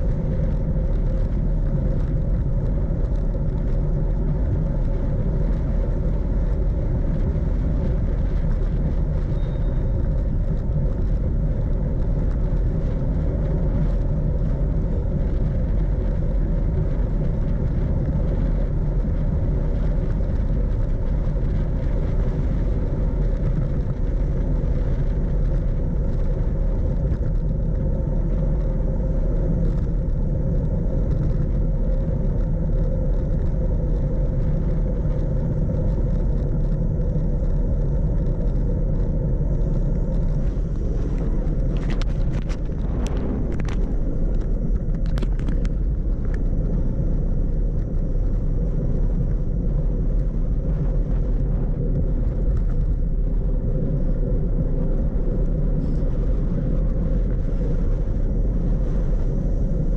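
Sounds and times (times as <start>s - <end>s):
bicycle tyre rumble: 0.0s - 59.9s
faint steady hum: 0.0s - 59.9s
wind on microphone: 0.0s - 59.9s.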